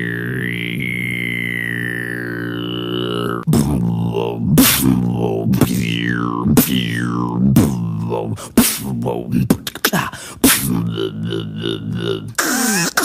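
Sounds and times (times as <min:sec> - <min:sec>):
beatboxer mouth sound effects: 0:00.0 - 0:13.0.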